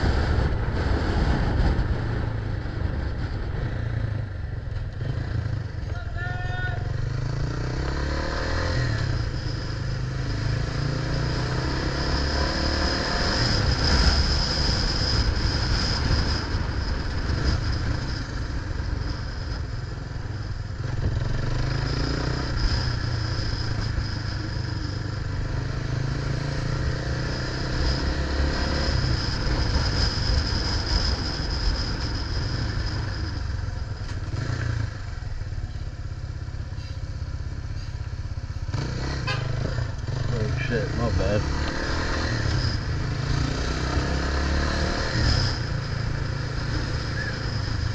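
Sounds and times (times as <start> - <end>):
bicycle road noise: 0.0 - 47.9.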